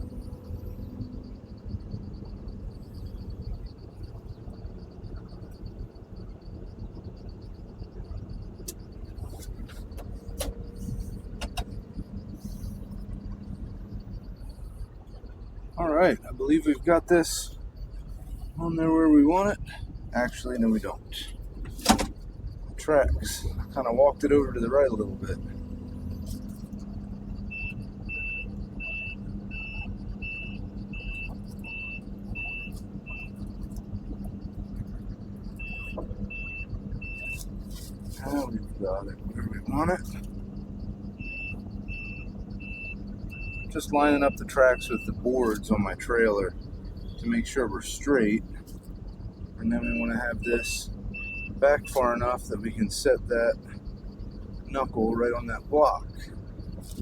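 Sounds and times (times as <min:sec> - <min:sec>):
excavator engine hum: 0:00.0 - 0:57.0
travel alarm beeping: 0:00.0 - 0:57.0.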